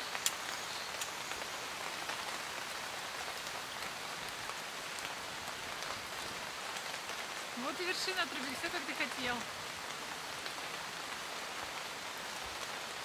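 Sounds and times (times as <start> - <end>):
sharp taps of raindrops: 0.0 - 12.9
light rain falling: 0.0 - 13.0.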